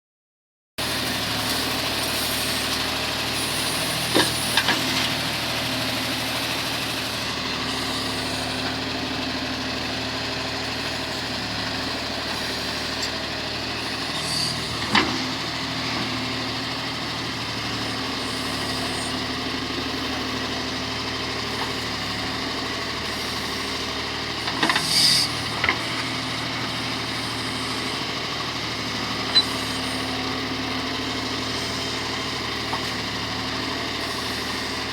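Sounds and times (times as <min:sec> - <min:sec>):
tractor diesel engine running: 0:00.8 - 0:34.9
backhoe knocking: 0:01.4 - 0:34.9.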